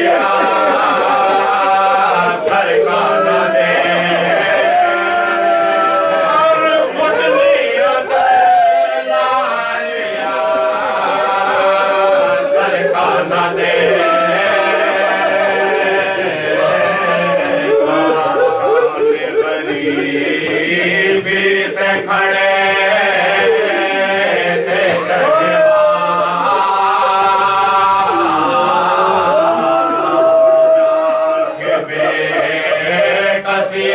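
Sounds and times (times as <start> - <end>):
men chanting without instruments: 0.0 - 33.9.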